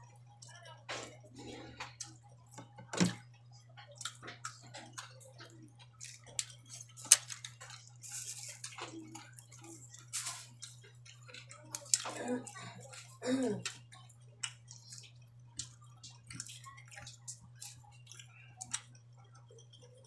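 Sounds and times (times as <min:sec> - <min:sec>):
steady low hum: 0:00.0 - 0:20.0
chewing and mouth smacks: 0:03.8 - 0:20.0.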